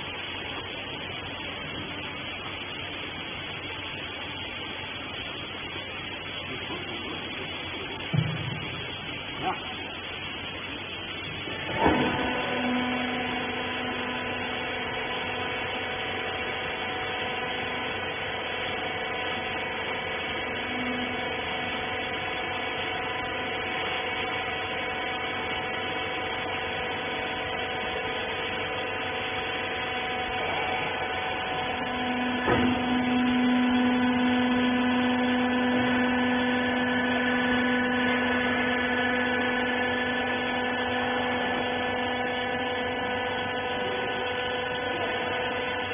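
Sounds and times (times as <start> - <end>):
electric motor and pump humming: 0.0 - 45.9.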